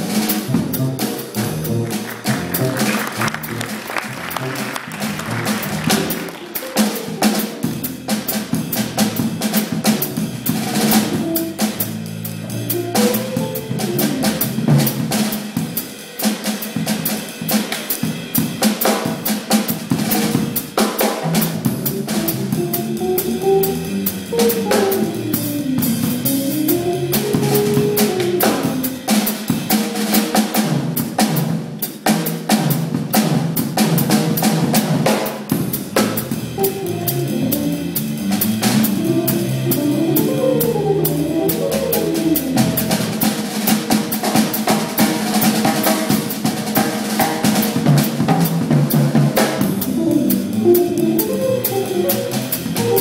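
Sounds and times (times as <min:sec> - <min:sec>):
double bass: 0:00.0 - 0:15.4, 0:19.9 - 0:29.1, 0:30.6 - 0:53.0
jazz drum kit playing: 0:00.0 - 0:53.0.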